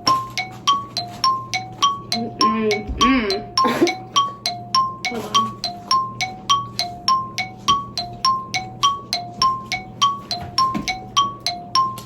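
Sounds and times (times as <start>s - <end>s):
bell-like mallet tune: 0.0s - 12.0s.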